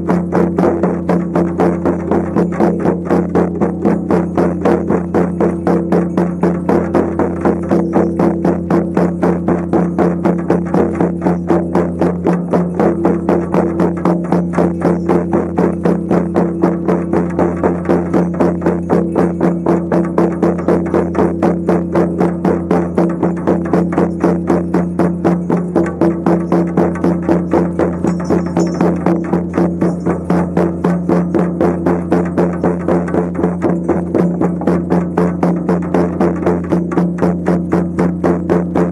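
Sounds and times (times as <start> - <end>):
frame drums beating: 0.0 - 38.9.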